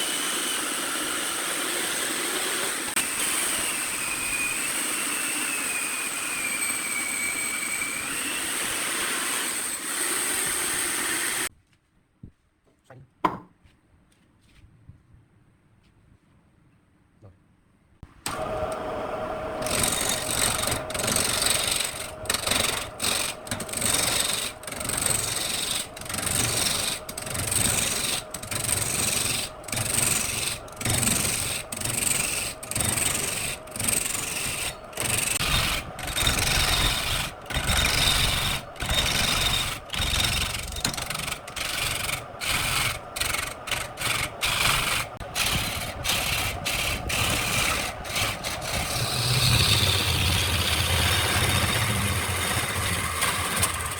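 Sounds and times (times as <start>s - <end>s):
wood lathe rasping rub: 0.0s - 11.5s, 18.3s - 53.9s.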